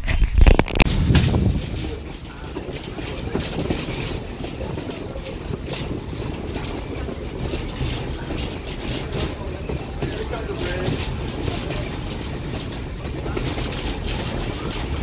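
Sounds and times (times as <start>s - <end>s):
train wheels rumbling on rail: 0.8s - 15.0s.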